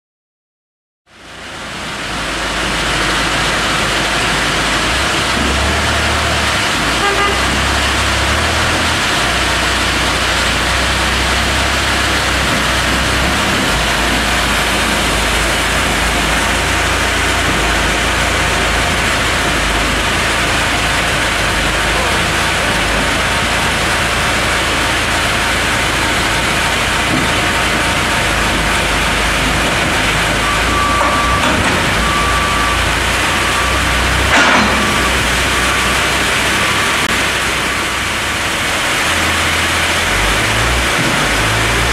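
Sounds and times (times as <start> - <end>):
diesel engine running under load: 1.1 - 41.9.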